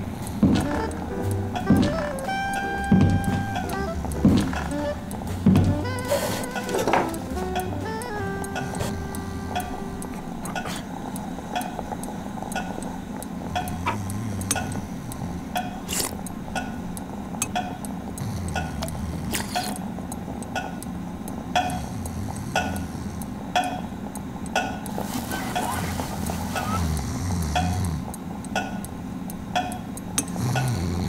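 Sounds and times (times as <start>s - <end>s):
clock ticking: 0.0s - 31.0s
low steady hum: 0.0s - 31.0s.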